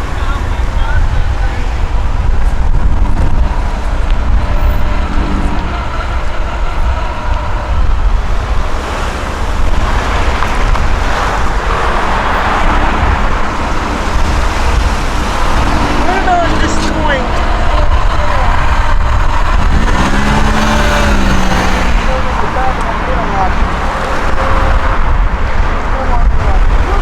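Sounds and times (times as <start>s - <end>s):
passing vehicle noise: 0.0s - 27.0s
vehicle rumble: 0.0s - 27.0s
wind buffeting microphone: 0.0s - 27.0s.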